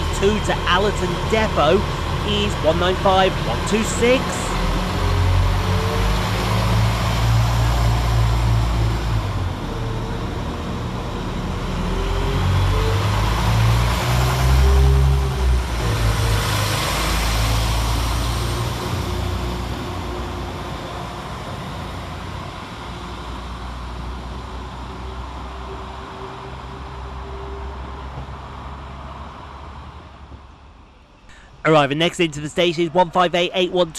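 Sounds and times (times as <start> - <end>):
diesel train engine pulling away: 0.0 - 33.9.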